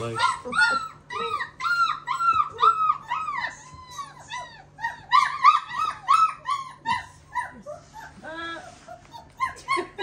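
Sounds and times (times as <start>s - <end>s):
puppy whimpering: 0.0s - 10.0s.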